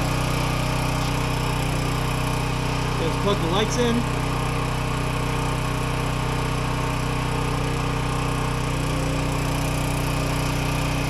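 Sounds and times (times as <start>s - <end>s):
generator running: 0.0s - 11.0s.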